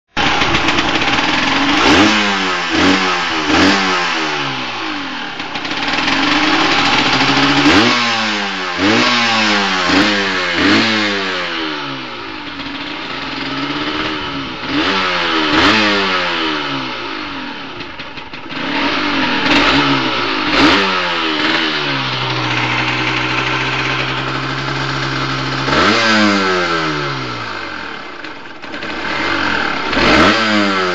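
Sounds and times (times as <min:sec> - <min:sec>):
motorcycle engine revving and idling: 0:00.1 - 0:30.9.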